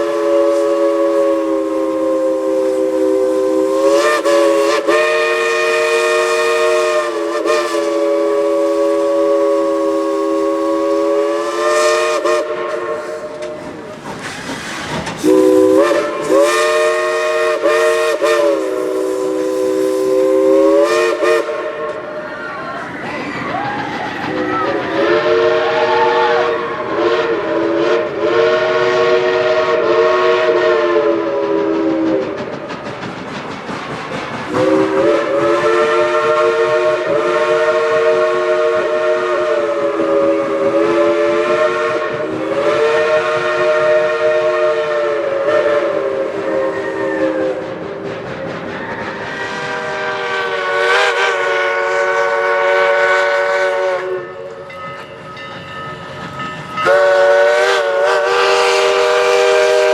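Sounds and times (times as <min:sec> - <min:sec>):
steam locomotive chime whistle: 0:00.0 - 0:13.9, 0:15.2 - 0:32.5, 0:34.5 - 0:47.9, 0:48.7 - 0:59.9
train running noise: 0:00.0 - 0:59.9.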